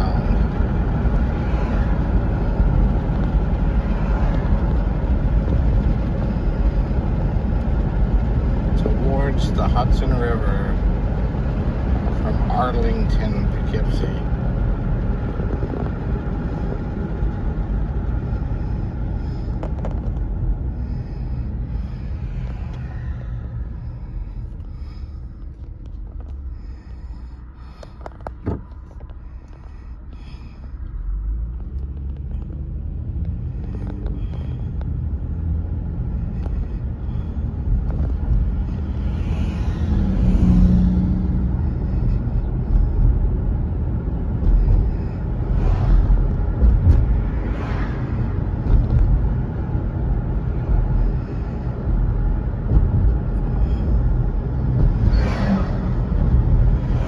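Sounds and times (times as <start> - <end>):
car interior road and engine rumble: 0.0 - 57.0.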